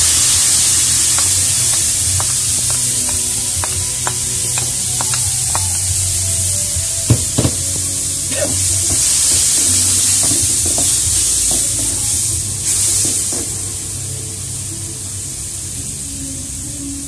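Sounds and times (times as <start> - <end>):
sauce sizzling in a wok: 0.0 - 17.0.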